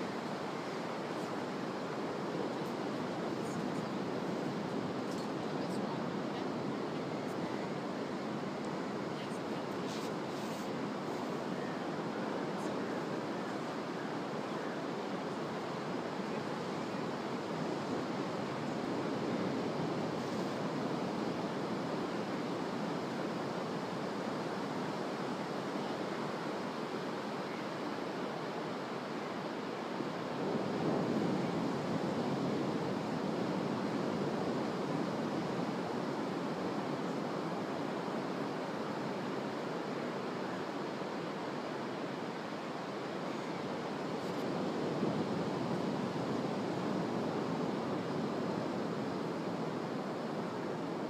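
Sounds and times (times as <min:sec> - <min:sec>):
ocean surf on sandy beach: 0:00.0 - 0:51.0.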